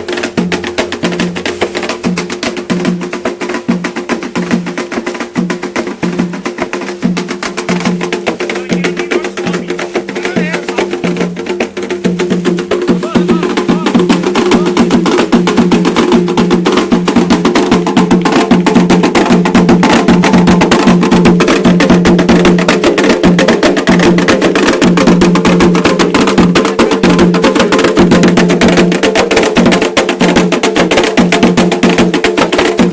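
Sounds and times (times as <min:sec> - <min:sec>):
percussion music drumming: 0:00.0 - 0:32.9.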